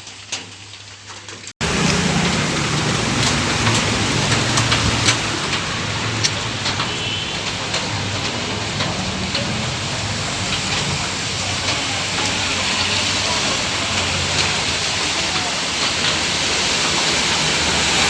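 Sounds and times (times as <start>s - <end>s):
steady rain hiss: 0.0s - 18.0s
raindrops striking sharply: 0.2s - 18.0s.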